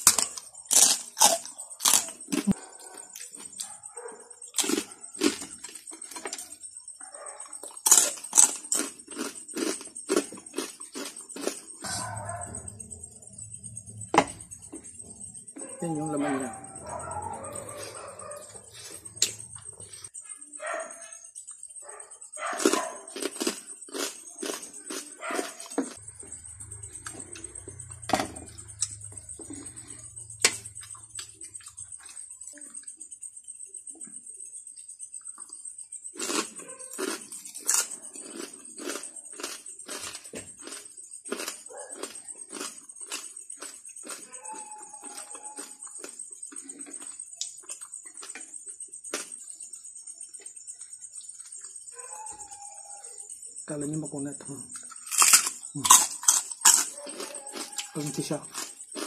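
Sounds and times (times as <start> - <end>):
person chewing crunchy food: 0.0 - 15.6, 16.7 - 20.2, 22.4 - 32.9, 36.1 - 49.7, 54.7 - 59.0.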